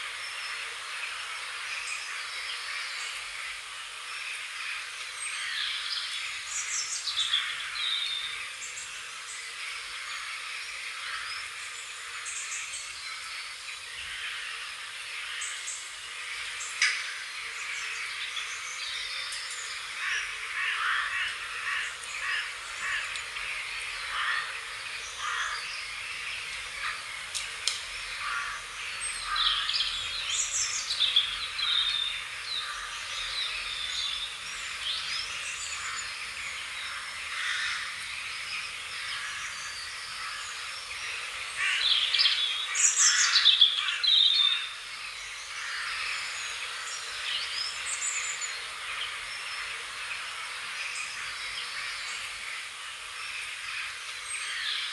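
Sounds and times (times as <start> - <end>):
birds chirping and singing: 0.0 - 54.9.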